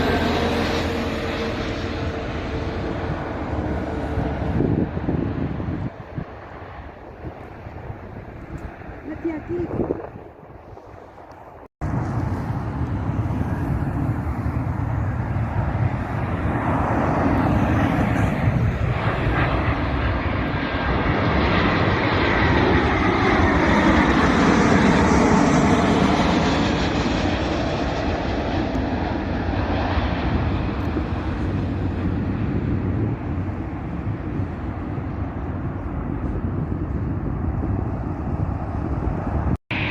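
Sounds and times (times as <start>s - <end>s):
aircraft engines roaring past: 0.0s - 39.9s.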